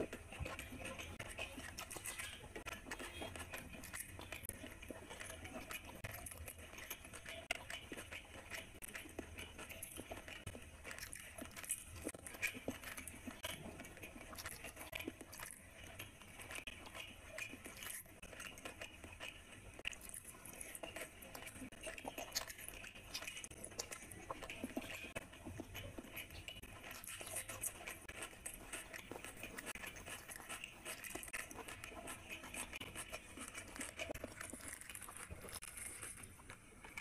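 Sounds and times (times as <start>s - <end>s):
chewing: 0.0s - 37.0s
fingers squishing food: 0.0s - 37.0s.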